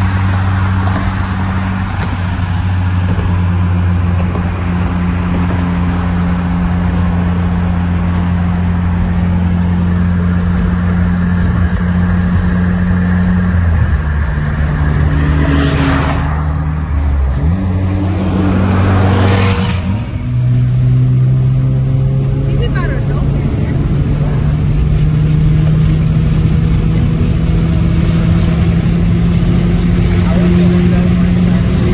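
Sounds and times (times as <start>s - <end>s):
car engine running: 0.0s - 31.9s.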